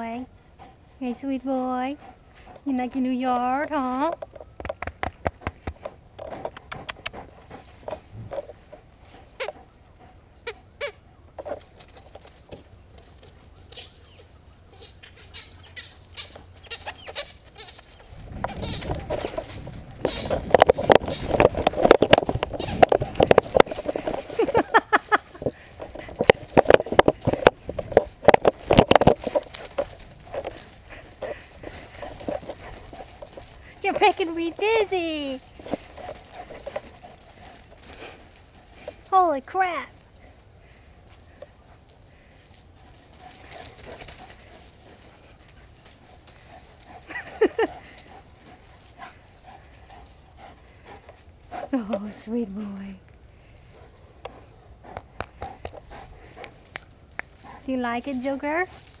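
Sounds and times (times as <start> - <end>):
faint rustling: 11.4 - 59.0.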